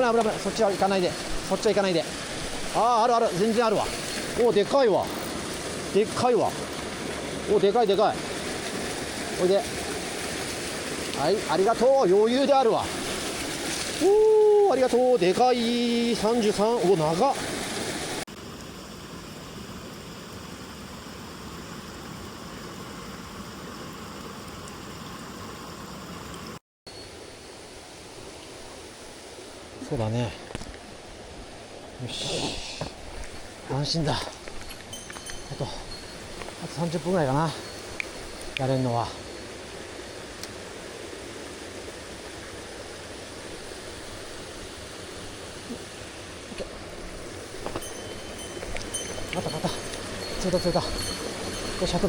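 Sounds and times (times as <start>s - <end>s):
stream flowing over rocks: 0.0s - 21.0s, 27.6s - 52.0s.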